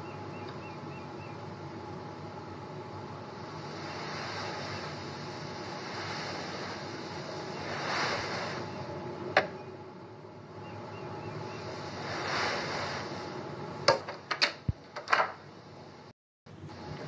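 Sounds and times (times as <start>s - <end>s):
rushing wind-like noise: 0.0s - 13.9s.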